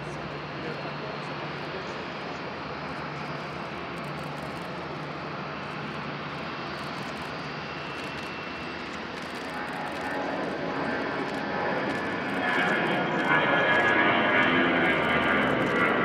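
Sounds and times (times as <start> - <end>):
jet engines taxiing: 0.0 - 16.0.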